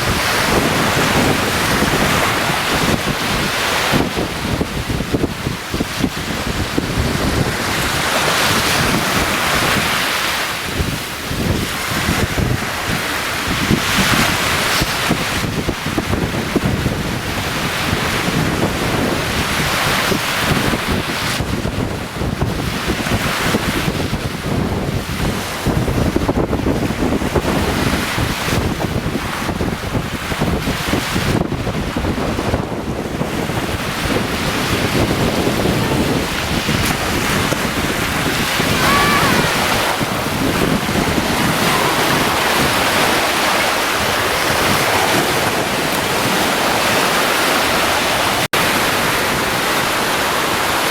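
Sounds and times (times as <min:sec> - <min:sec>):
surf washing onto beach: 0:00.0 - 0:50.9
wave breaking: 0:00.0 - 0:50.9
wind buffeting microphone: 0:00.0 - 0:50.9.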